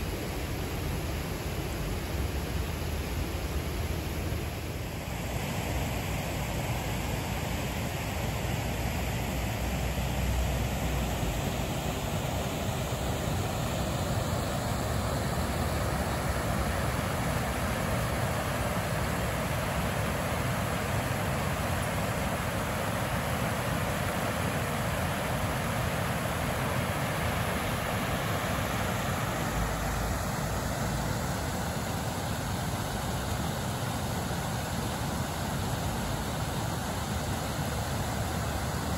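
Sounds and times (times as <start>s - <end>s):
water rushing over weir: 0.0s - 38.9s.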